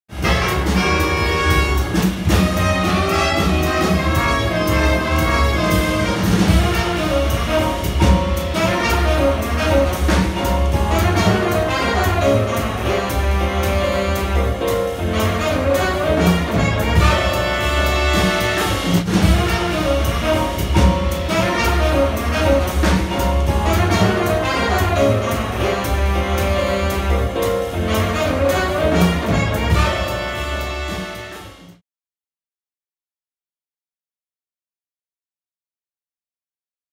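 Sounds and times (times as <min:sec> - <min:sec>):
small jazz ensemble playing: 0:00.1 - 0:31.8.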